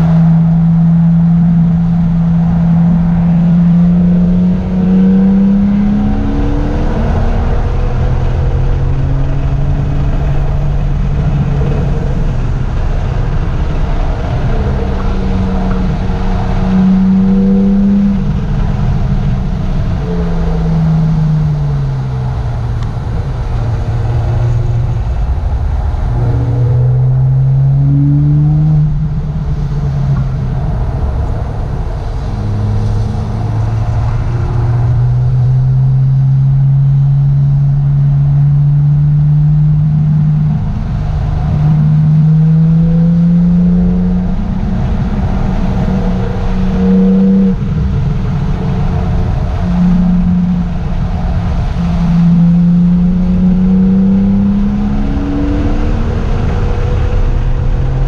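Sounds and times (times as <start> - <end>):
sports car engine: 0.0 - 58.0.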